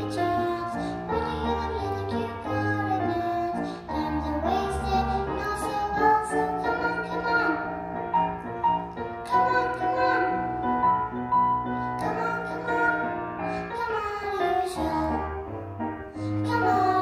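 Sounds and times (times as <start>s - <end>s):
girl singing into a microphone: 0.0s - 8.1s, 9.1s - 10.8s, 11.7s - 15.4s, 16.1s - 17.0s
piano accompaniment: 0.0s - 17.0s.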